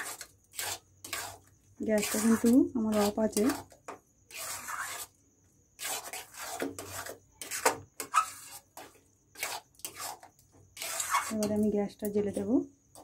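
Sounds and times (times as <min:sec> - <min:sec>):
metal spatula scraping a metal pan: 0:00.0 - 0:05.2, 0:05.8 - 0:13.0.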